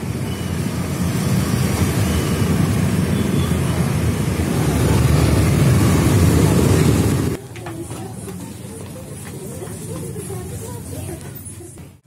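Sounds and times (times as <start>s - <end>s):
motorbike traffic rumble: 0.0s - 12.0s.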